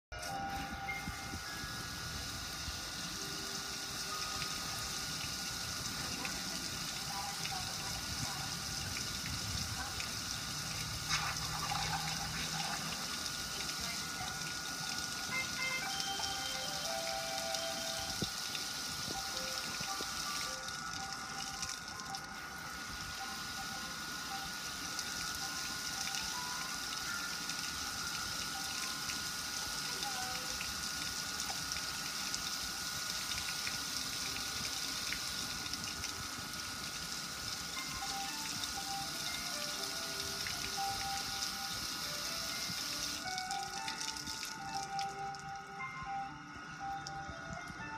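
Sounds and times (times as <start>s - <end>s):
water spraying on metal grill: 0.2s - 45.3s
small drips and ticks: 2.9s - 23.5s, 24.2s - 45.8s, 47.0s - 47.6s.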